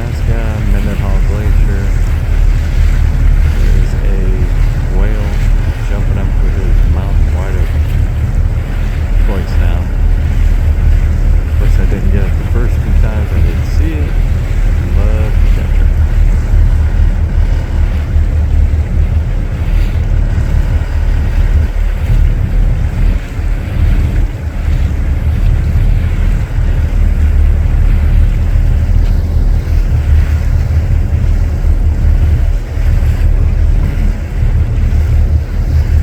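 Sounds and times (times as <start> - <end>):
boat engine running: 0.0 - 36.0
wash of waves: 0.0 - 36.0
wind buffeting microphone: 0.0 - 36.0.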